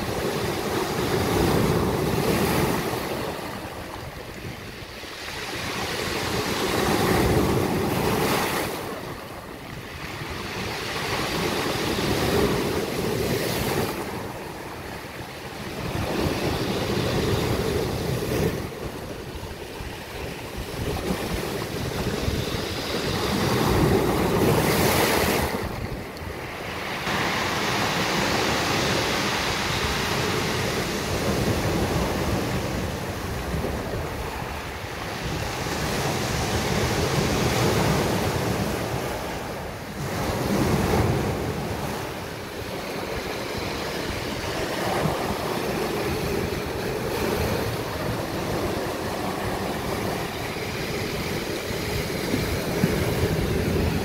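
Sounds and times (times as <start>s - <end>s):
surf breaking on a beach: 0.0s - 54.0s
wind buffeting microphone: 0.0s - 54.0s.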